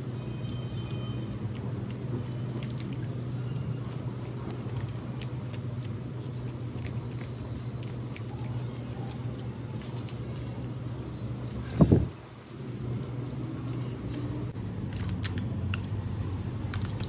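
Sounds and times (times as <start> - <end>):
steady low hum: 0.0 - 17.0
mouth chewing and smacking: 0.4 - 17.0.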